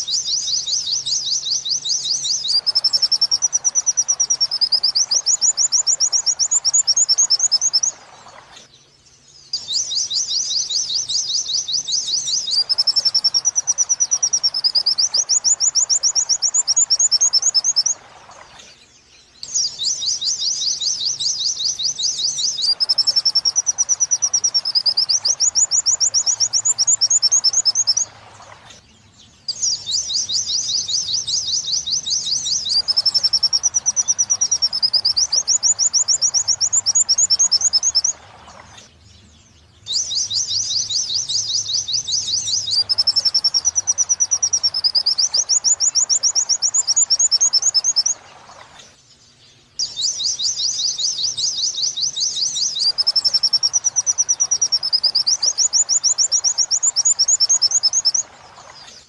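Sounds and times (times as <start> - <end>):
bird chattering trills: 0.0 - 8.7, 9.5 - 28.1, 29.5 - 38.9, 39.9 - 48.2, 49.8 - 58.3.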